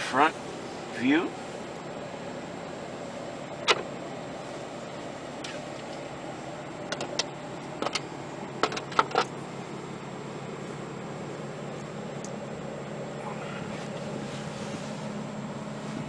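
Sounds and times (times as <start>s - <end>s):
steady hum inside pickup cab: 0.0s - 16.0s.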